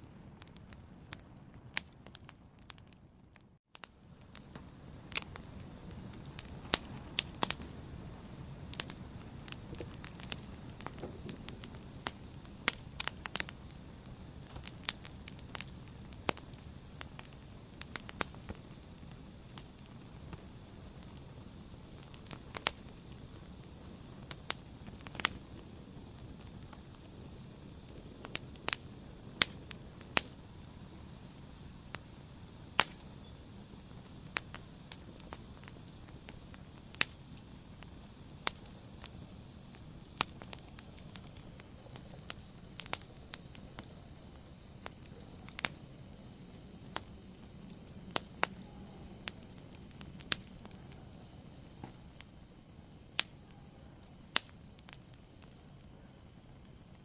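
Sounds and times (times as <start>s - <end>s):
low rumble of flames: 0.0s - 57.0s
wood fire pops and snaps: 0.3s - 57.0s.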